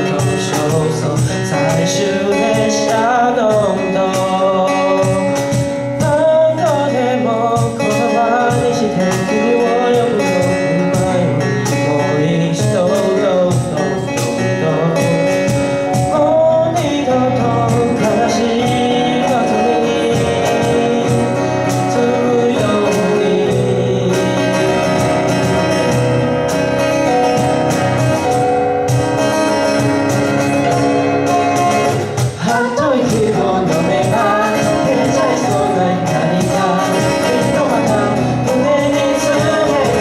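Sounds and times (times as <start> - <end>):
people singing: 0.0 - 26.3, 30.3 - 40.0
live pop band playing: 0.0 - 40.0.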